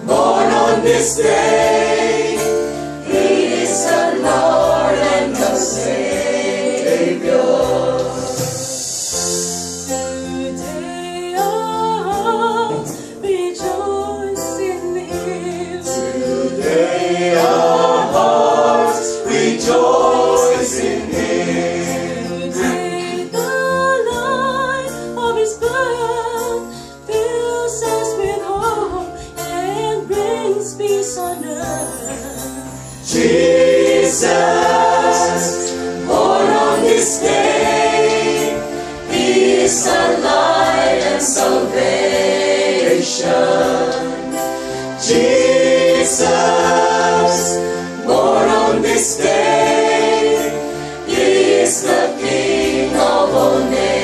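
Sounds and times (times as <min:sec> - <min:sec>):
mixed choir singing: 0:00.0 - 0:12.9, 0:15.1 - 0:24.3, 0:31.3 - 0:54.0.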